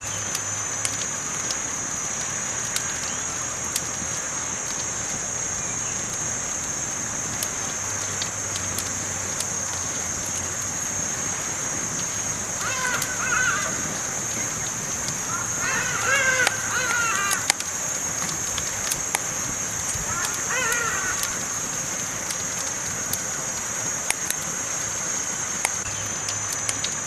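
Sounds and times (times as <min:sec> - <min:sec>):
campfire crackling and popping: 0:00.0 - 0:27.0
high-pitched hiss: 0:00.0 - 0:27.0.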